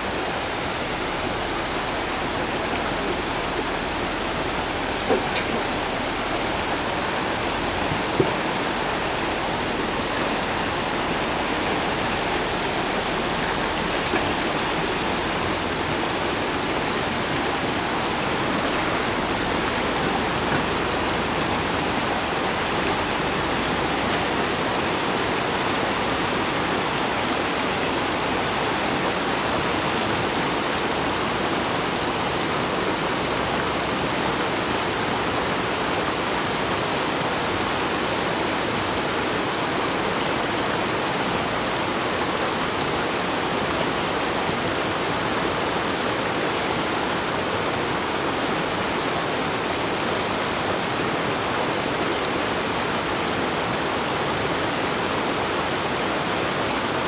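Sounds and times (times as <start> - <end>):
mountain creek rushing over rocks: 0.0 - 57.0.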